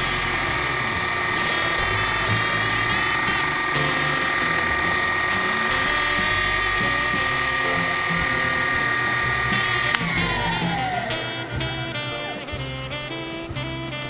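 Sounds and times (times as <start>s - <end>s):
milling machine spindle whine: 0.0s - 11.5s.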